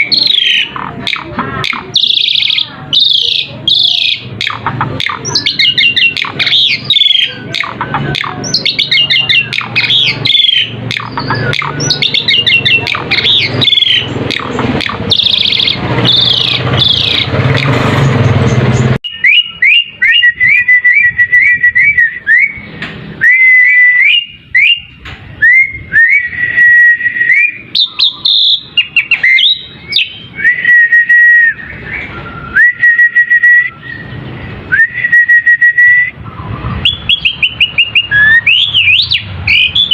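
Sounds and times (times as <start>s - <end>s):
starling chattering and whistling: 0.0s - 39.9s.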